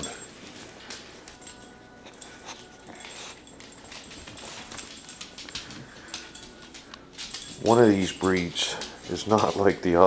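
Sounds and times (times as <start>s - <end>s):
dog breathing and snuffling: 0.0s - 9.6s.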